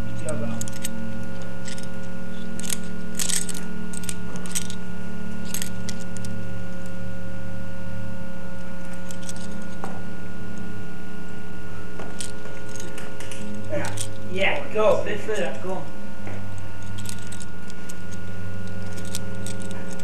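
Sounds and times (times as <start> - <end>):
metal climbing gear clinking: 0.0 - 6.9, 8.6 - 10.0, 12.0 - 20.0
steady low hum: 0.0 - 20.0.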